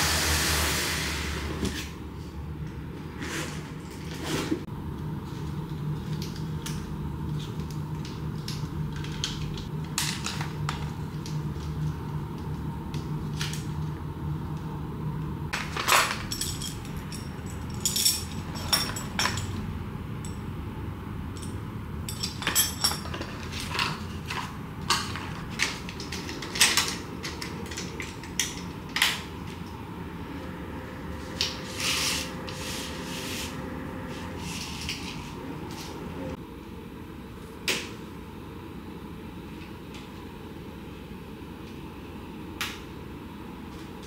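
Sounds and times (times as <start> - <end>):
low background hum: 0.9 - 44.0.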